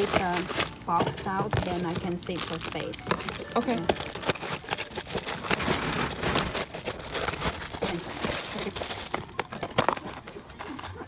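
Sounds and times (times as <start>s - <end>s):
plastic and cardboard crinkling: 0.0s - 11.0s.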